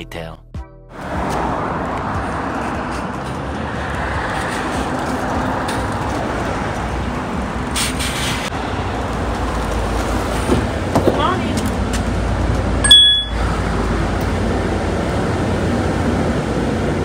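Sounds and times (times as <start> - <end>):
bus engine and road rumble: 0.9 - 17.0.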